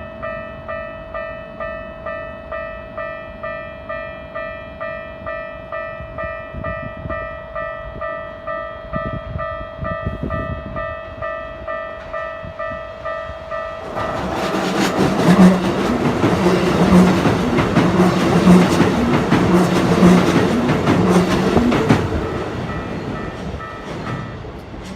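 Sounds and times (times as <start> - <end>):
level crossing warning bell: 0.0 - 24.5
train passing with rumble: 0.0 - 24.9.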